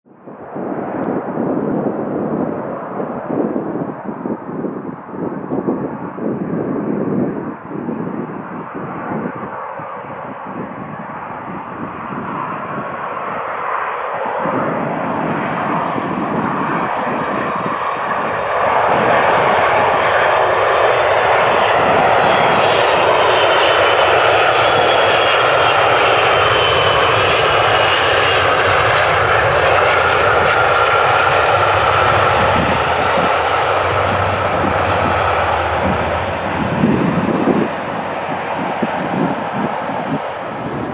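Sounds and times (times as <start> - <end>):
wind buffeting microphone: 0.0 - 40.9
jet engines with high whine: 0.1 - 40.9.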